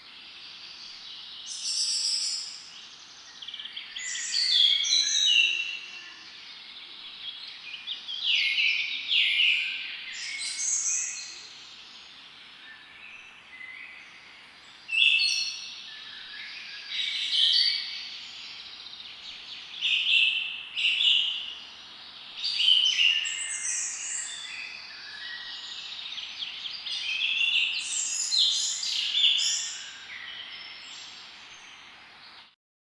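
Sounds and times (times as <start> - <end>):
songbirds singing: 0.0 - 32.6.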